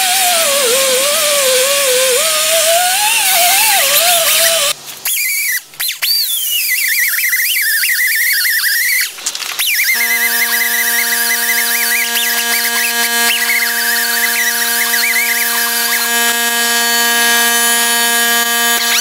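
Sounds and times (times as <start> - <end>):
air angle grinder whining on metal: 0.0 - 5.3, 8.4 - 19.0.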